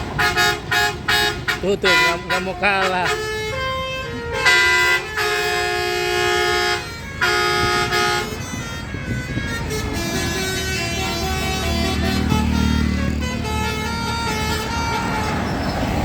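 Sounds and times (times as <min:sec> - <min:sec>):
multi-tone musical air horn: 0:00.0 - 0:15.7.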